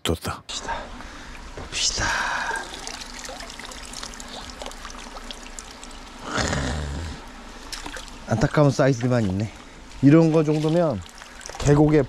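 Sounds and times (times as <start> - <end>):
water trickling and dripping: 1.1 - 6.3, 7.2 - 12.0.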